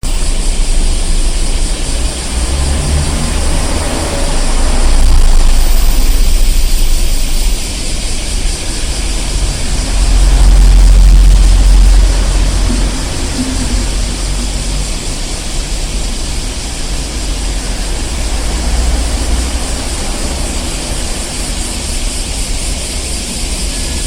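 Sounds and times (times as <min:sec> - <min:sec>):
street traffic rumble: 0:00.0 - 0:24.0
vehicles passing close by: 0:00.0 - 0:24.0.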